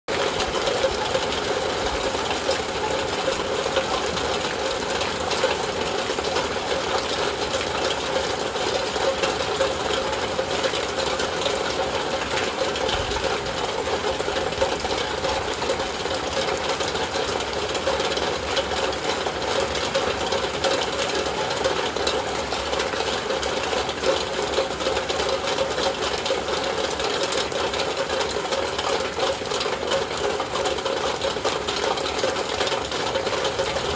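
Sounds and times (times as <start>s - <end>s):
heavy rain on a window: 0.1s - 33.9s.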